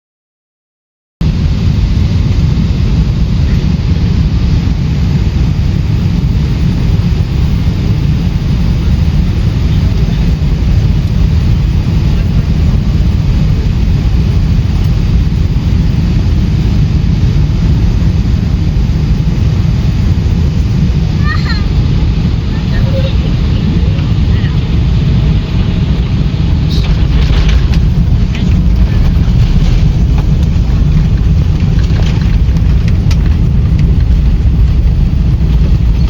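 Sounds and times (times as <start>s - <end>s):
jet engines rumbling: 1.2s - 36.0s
rushing air: 1.2s - 36.0s.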